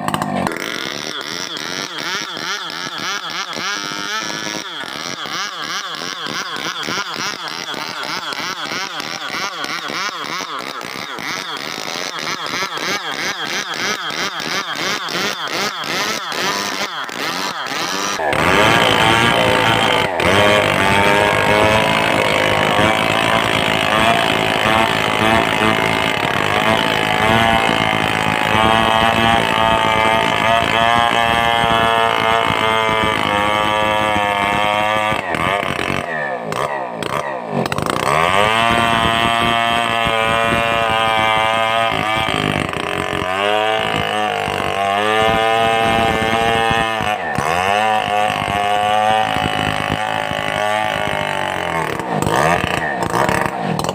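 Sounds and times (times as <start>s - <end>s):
chainsaw running: 0.0s - 53.9s.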